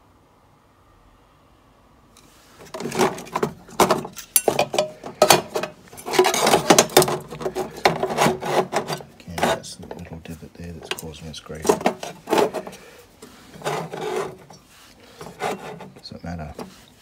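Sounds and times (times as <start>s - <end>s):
metal parts scraping and knocking: 2.2s - 17.0s.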